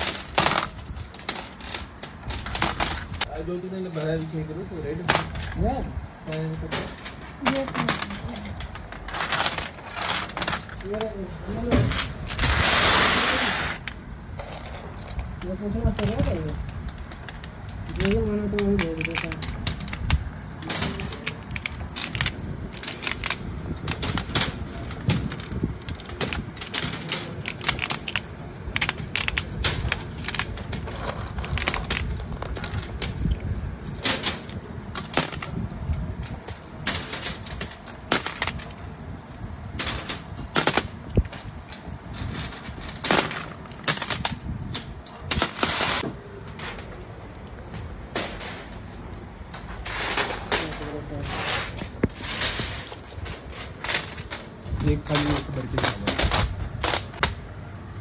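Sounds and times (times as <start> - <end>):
small hard objects clattering: 0.0 - 47.0, 49.6 - 57.4.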